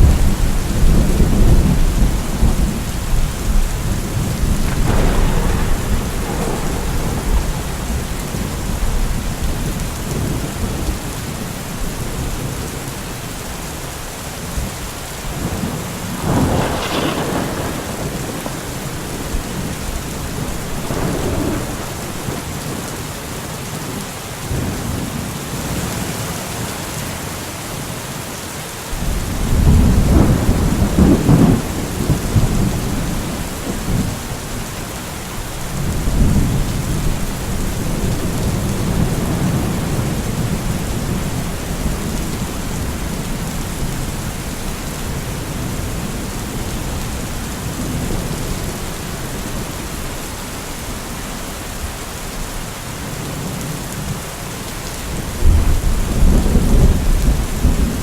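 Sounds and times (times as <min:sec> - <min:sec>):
thunder rumbling: 0:00.0 - 0:13.3, 0:14.5 - 0:23.2, 0:29.0 - 0:51.8, 0:55.1 - 0:58.0
steady rain: 0:00.0 - 0:58.0.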